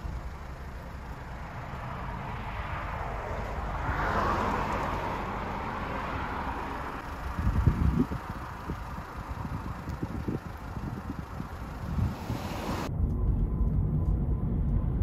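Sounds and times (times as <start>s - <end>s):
car tyre and engine rumble: 0.0s - 15.0s.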